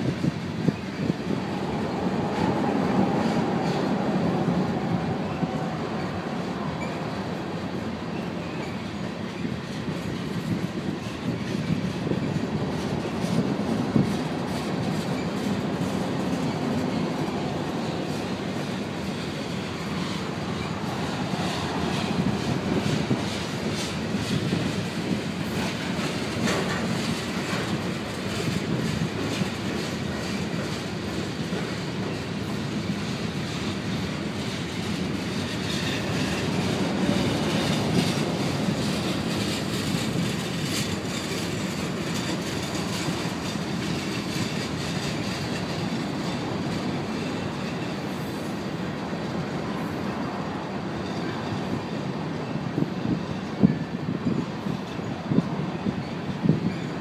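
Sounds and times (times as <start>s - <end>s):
wheels clanking over rail joints: 0.0s - 49.8s
train rumbling past: 0.0s - 57.0s.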